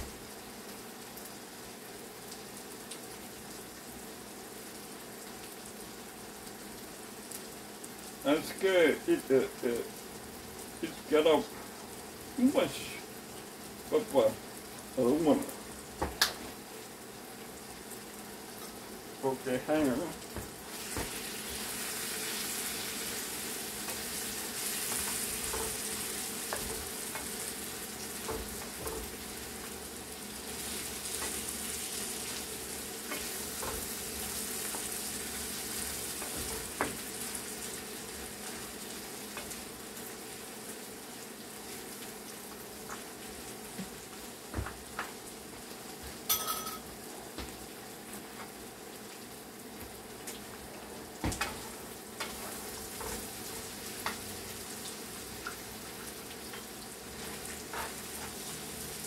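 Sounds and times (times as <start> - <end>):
chicken sizzling in oil: 0.0 - 59.0.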